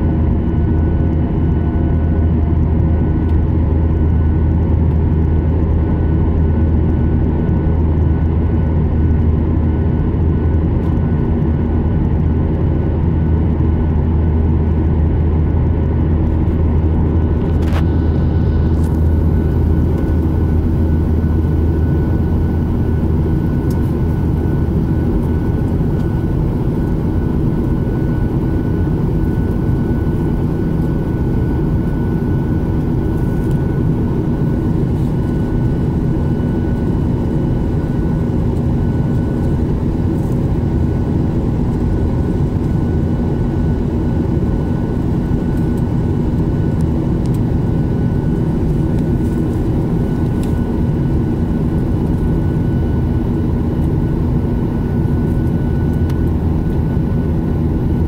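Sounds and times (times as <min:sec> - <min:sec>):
faint humming tones: 0:00.0 - 0:58.0
jet engine drone: 0:00.0 - 0:58.0.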